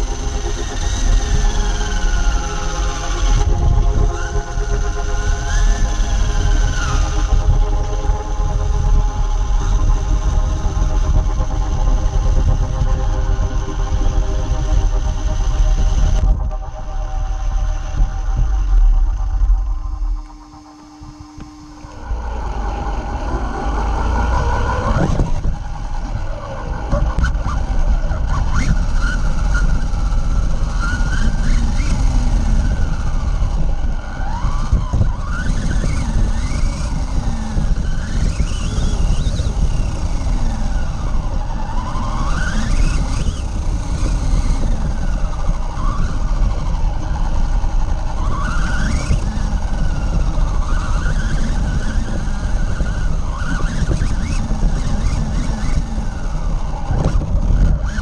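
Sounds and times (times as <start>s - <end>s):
toy car motor revving: 0.0s - 58.0s.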